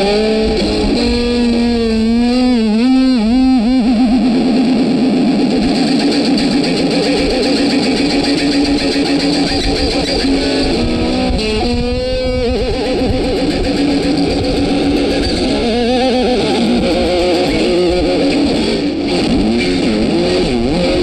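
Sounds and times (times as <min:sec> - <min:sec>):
electric guitar music: 0:00.0 - 0:21.0.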